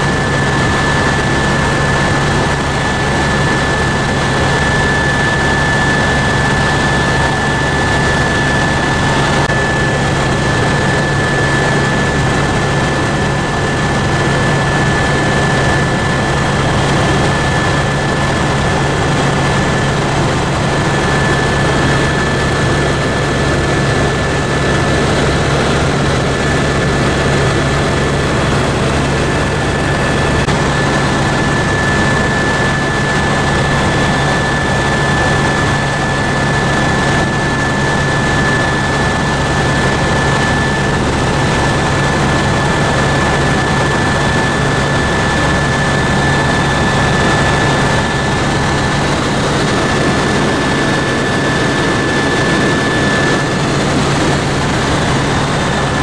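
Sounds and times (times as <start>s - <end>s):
helicopter cabin drone: 0.0s - 56.0s.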